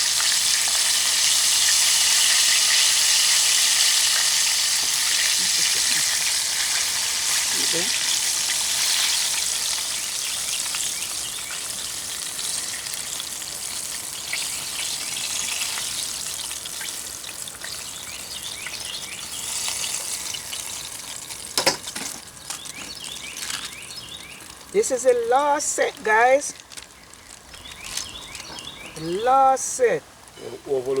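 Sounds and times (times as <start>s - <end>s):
chicken deep-frying in oil: 0.0s - 24.9s.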